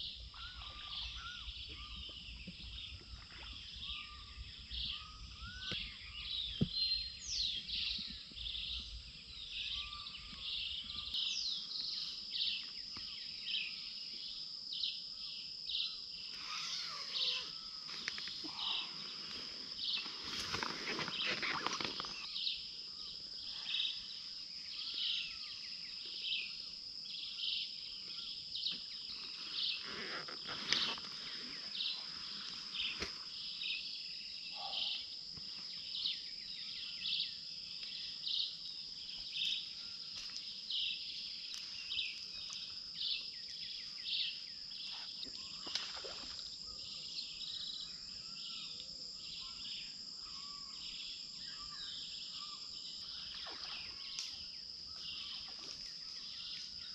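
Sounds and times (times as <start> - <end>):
insects trilling: 0.0 - 56.9
loud insect chirp: 0.0 - 56.9.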